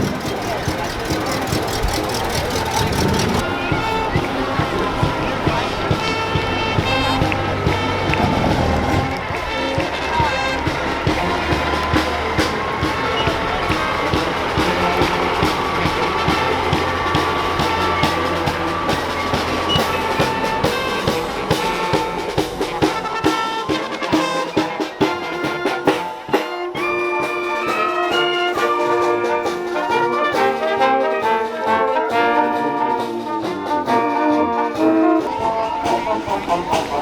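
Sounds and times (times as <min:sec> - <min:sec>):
brass band playing: 0:00.0 - 0:37.0
drums: 0:00.0 - 0:37.0
held brass notes: 0:00.0 - 0:37.0.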